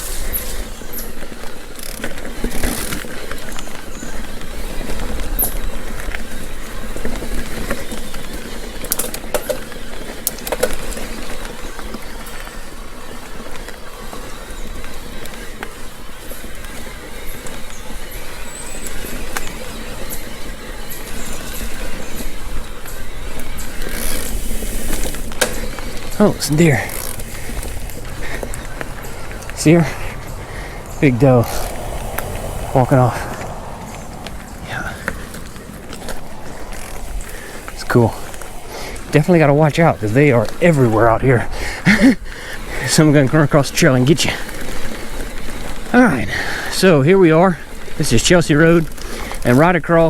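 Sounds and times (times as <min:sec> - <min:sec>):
bike tyres rolling on dirt: 0:00.0 - 0:50.0.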